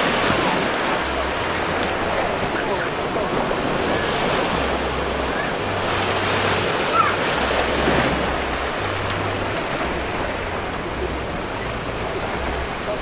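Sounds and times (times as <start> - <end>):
small waves breaking on a reef: 0.0 - 13.0.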